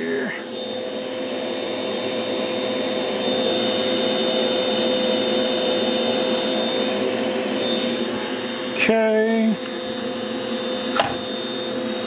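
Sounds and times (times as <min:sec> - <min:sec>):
laser engraver fans whirring: 0:00.0 - 0:12.0.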